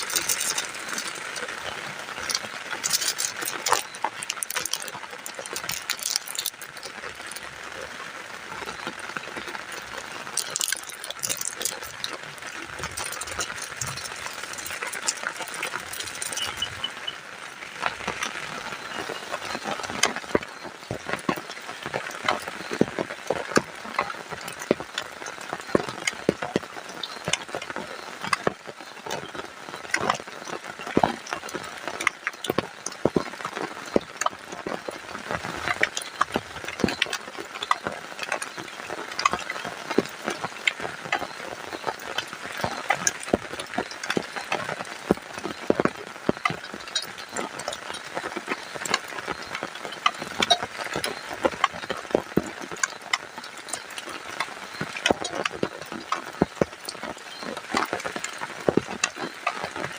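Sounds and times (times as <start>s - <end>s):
food cooking in a pan: 0.0s - 59.9s
heavy rain hissing: 0.0s - 59.9s.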